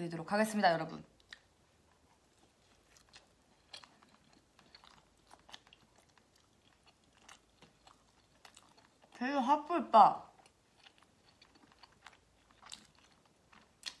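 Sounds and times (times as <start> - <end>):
faint chewing of pizza: 1.1 - 9.2, 10.3 - 14.0.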